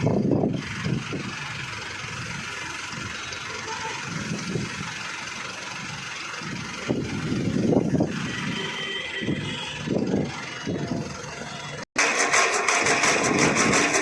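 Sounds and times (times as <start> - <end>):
tractor engine idling: 0.0 - 14.0.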